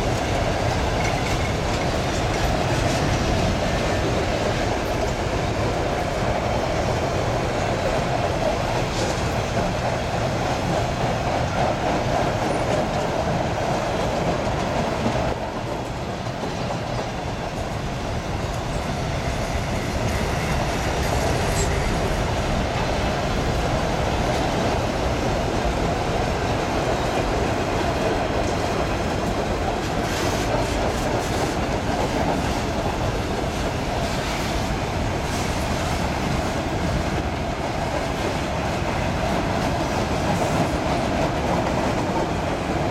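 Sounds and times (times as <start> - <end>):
clickety-clack over rail joints: 0.0 - 42.9
train wheels rolling on track: 0.0 - 42.9.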